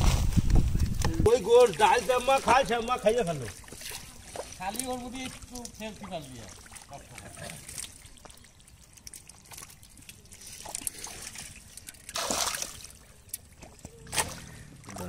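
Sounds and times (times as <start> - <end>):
muddy water trickling: 0.2 - 15.0
small wet clicks: 0.5 - 15.0.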